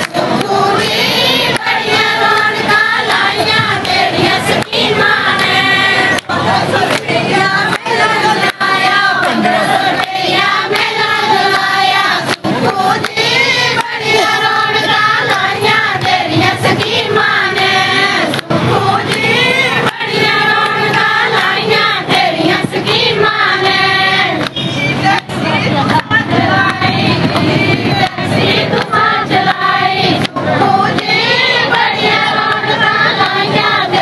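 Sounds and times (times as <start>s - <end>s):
hands clapping: 0.0s - 23.0s, 24.4s - 33.8s
women singing in unison: 0.0s - 34.0s.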